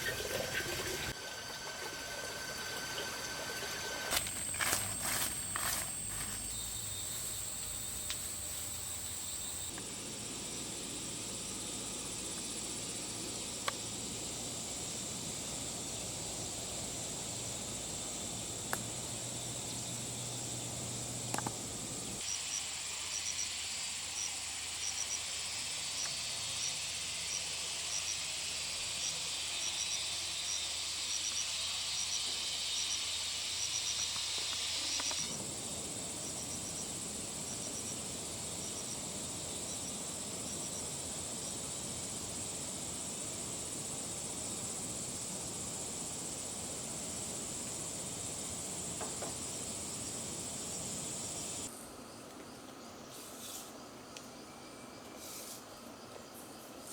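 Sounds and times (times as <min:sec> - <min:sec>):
insects buzzing: 0:00.0 - 0:56.9.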